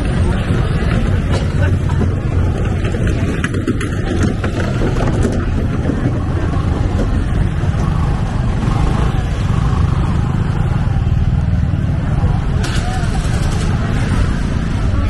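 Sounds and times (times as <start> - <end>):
motorbike traffic rumble: 0.0 - 15.0.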